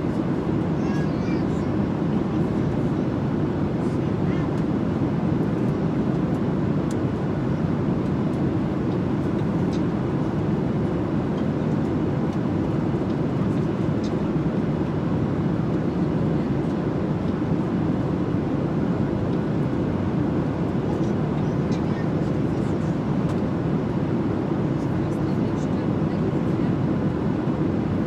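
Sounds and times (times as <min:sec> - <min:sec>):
jet cabin engine roar: 0:00.0 - 0:28.0.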